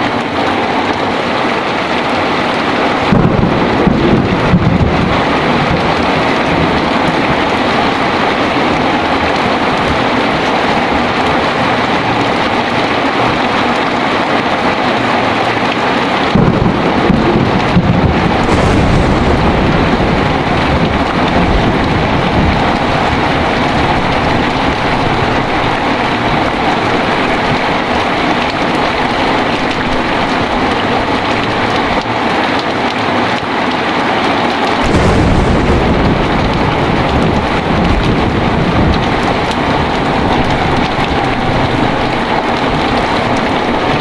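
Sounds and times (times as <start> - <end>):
heavy rain: 0.0 - 44.0
thunder rumble: 2.6 - 32.9, 34.7 - 44.0.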